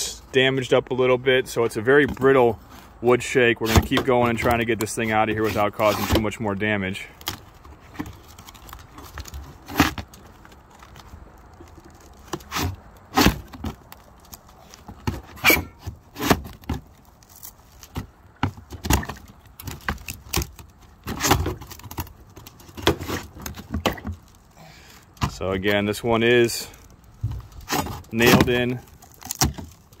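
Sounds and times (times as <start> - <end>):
wood cracking: 3.6 - 30.0.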